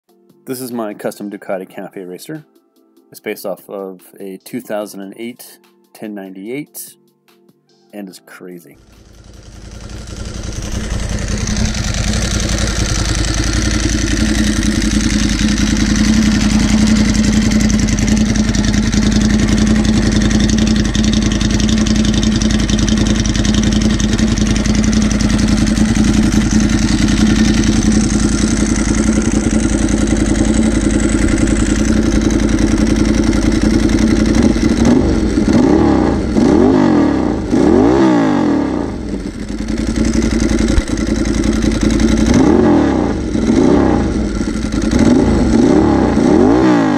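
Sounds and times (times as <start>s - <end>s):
motorcycle engine idling: 8.8s - 46.9s
motorcycle engine revving: 8.8s - 46.9s.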